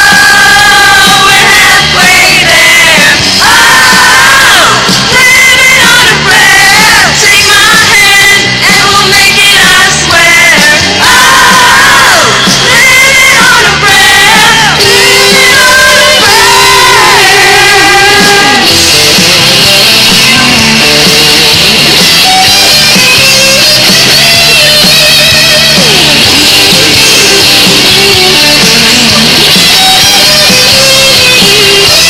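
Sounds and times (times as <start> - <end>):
man singing and shouting: 0.0 - 32.0
rock band playing: 0.0 - 32.0.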